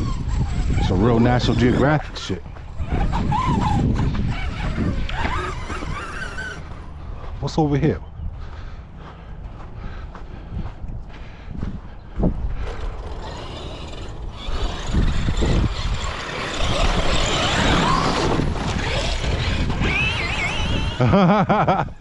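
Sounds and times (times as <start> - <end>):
motor running: 0.0 - 7.1, 9.8 - 21.7.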